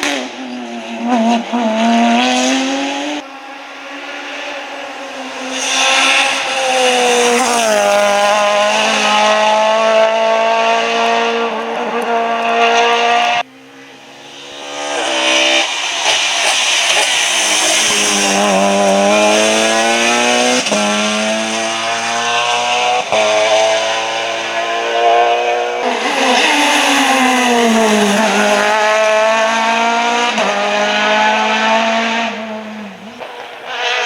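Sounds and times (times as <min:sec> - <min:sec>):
rally car engines revving through gears: 0:00.0 - 0:34.0.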